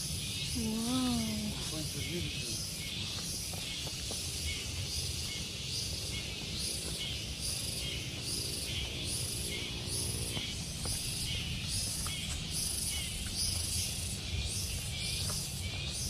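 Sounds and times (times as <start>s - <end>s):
insects calling in shrill chorus: 0.0s - 16.0s.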